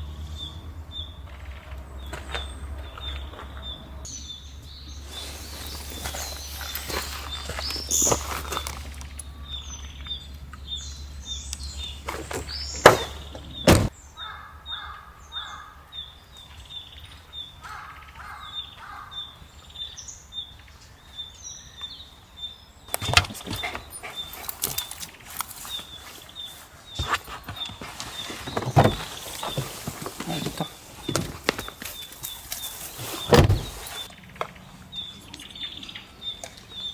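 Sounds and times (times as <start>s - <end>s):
birds chirping: 0.0s - 36.9s
other bird calls: 0.0s - 36.9s.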